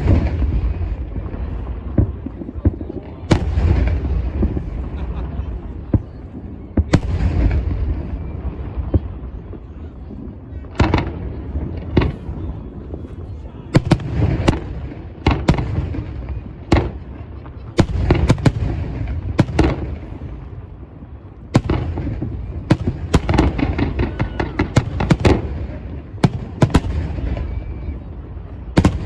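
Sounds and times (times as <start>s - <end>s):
distant explosions rumbling: 0.0s - 29.0s
fireworks banging: 0.0s - 29.0s.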